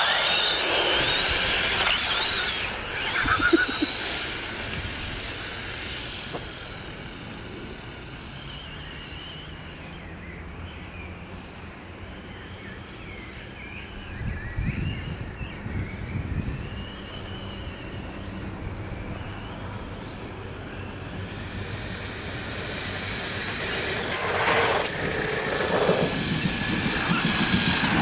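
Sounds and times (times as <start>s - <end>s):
electric rc car motor whines: 0.0s - 10.9s, 16.1s - 28.0s.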